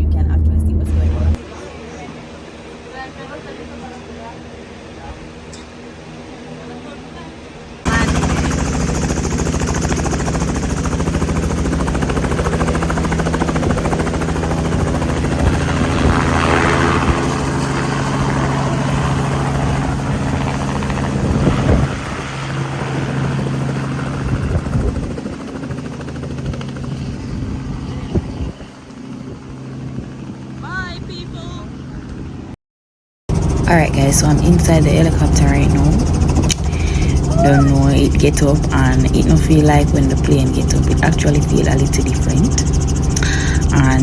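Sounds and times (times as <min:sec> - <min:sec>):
helicopter rotor and engine drone: 0:00.9 - 0:32.6, 0:33.3 - 0:44.0.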